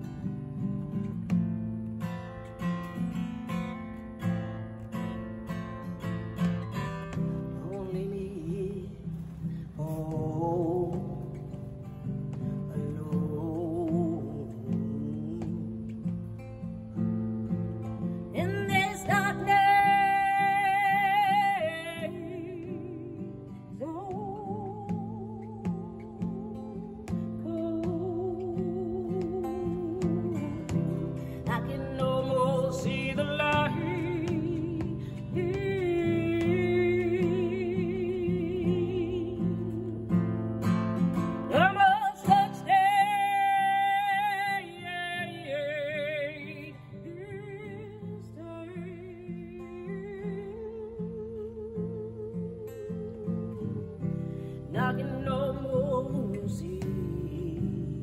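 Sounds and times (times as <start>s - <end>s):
acoustic guitar: 0.0s - 58.0s
woman singing: 2.9s - 58.0s.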